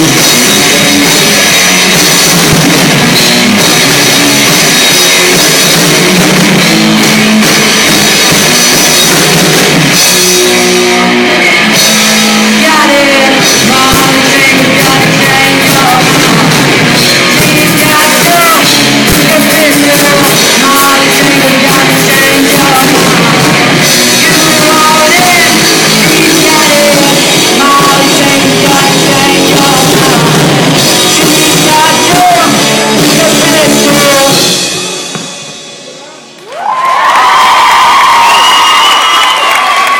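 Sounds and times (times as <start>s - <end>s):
rock music with singing: 0.0s - 36.3s.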